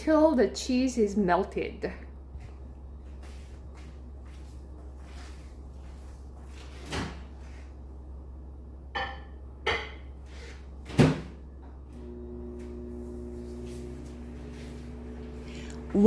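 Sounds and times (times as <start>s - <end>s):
microwave humming: 2.0s - 16.0s.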